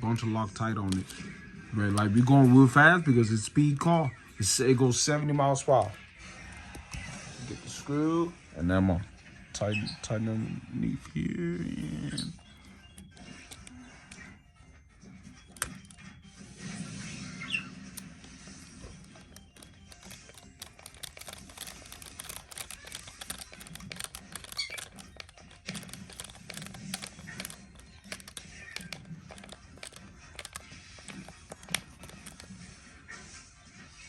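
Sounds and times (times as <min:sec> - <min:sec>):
faint background music: 0:00.0 - 0:34.0.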